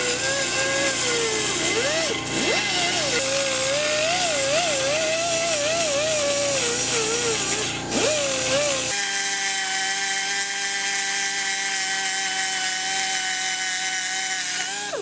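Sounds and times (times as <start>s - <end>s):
die grinder whining: 0.0s - 15.0s.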